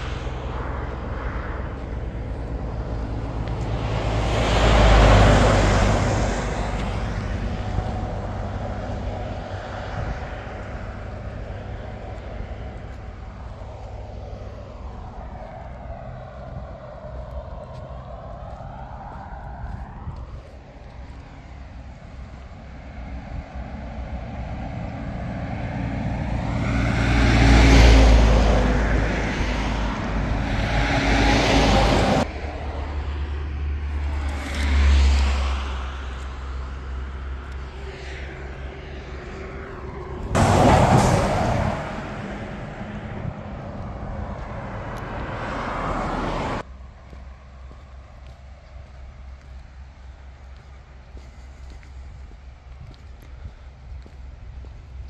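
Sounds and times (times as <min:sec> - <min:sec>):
vehicles passing: 0:00.0 - 0:55.0.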